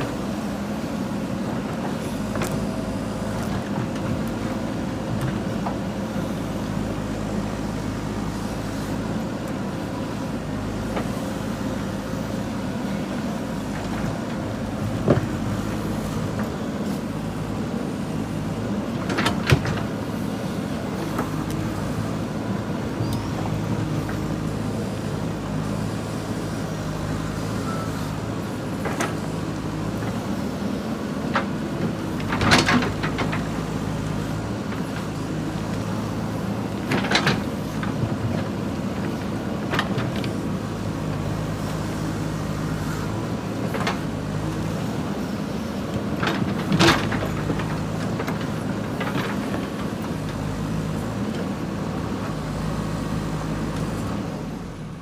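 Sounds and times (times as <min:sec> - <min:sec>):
diesel engine under load: 0:00.0 - 0:55.0.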